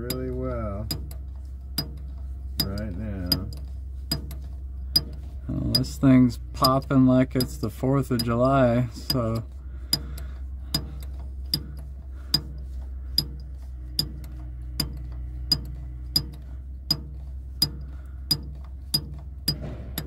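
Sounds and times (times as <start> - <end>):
low steady hum: 0.0 - 20.0
valve diaphragm clicking: 0.0 - 20.0.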